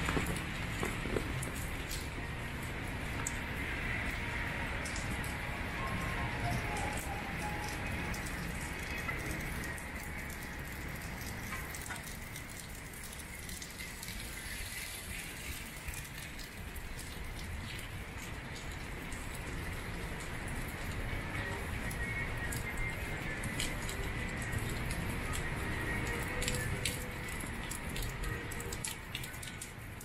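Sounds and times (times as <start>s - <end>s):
rain on wet pavement: 0.0s - 30.0s
drip ticks: 0.1s - 3.4s, 4.8s - 30.0s.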